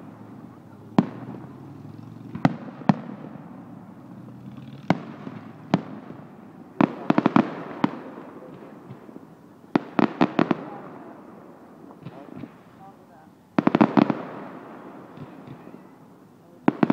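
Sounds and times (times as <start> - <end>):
fireworks bursting with booms: 0.0 - 16.9.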